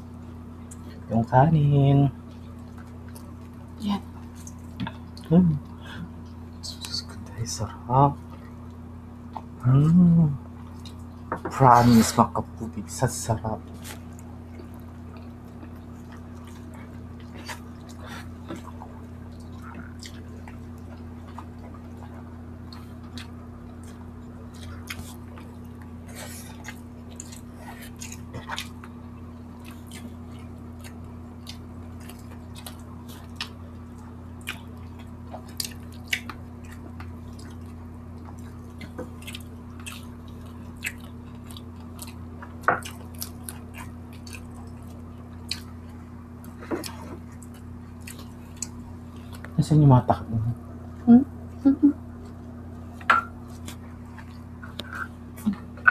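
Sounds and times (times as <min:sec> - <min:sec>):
steady low hum: 0:00.0 - 0:55.9
wet chewing and lip smacks: 0:02.2 - 0:07.2, 0:10.6 - 0:11.3, 0:13.6 - 0:49.6, 0:52.2 - 0:55.9.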